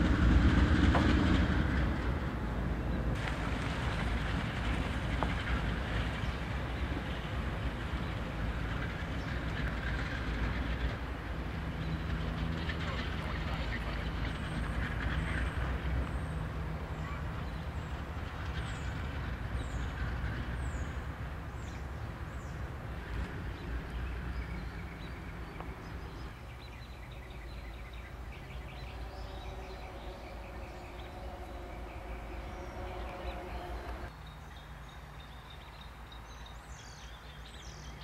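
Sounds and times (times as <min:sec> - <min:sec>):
locomotive engine rumble: 0:00.0 - 0:34.1.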